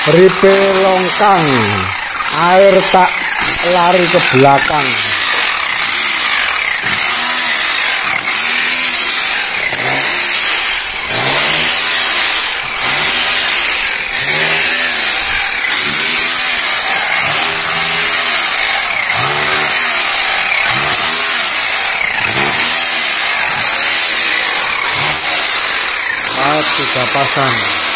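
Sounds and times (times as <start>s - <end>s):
rotary hammer chiseling concrete: 0.0s - 27.9s.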